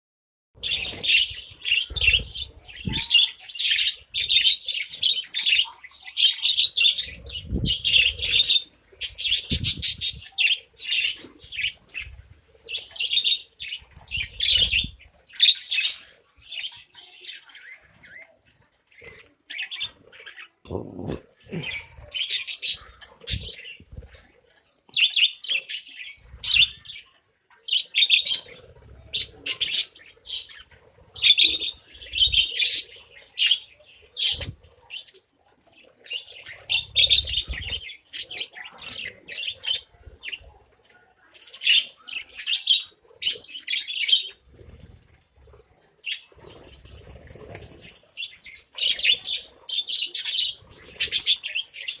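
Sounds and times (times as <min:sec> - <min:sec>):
budgerigars chirping and chattering: 0:00.6 - 0:24.4, 0:25.0 - 0:45.1, 0:46.0 - 0:52.0.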